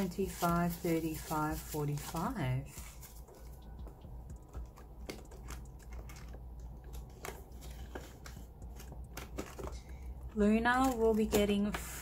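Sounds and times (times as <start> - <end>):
binder pages turning: 0.0 - 10.0.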